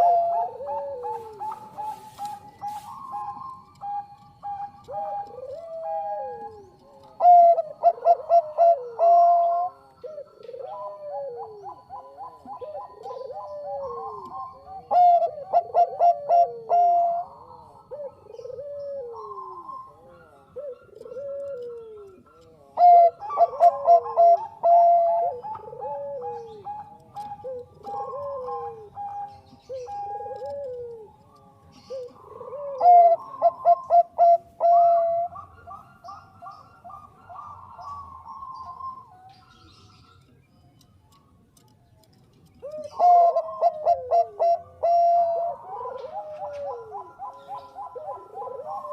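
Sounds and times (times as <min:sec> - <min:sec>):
soft falling dove coos: 0:00.0 - 0:40.0, 0:41.1 - 0:48.9.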